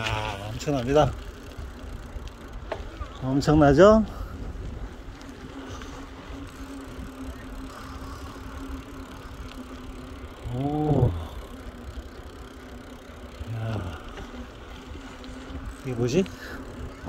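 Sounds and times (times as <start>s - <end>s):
rumble over paving stones: 0.0s - 17.0s
steady low hum: 0.0s - 17.0s.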